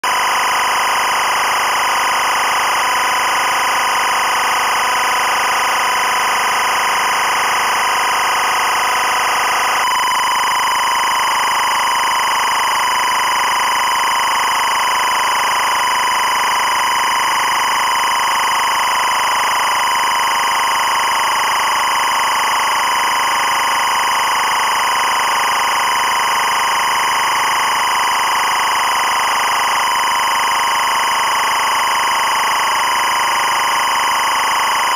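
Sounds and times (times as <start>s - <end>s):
electronic timecode data tone: 0.1s - 34.9s.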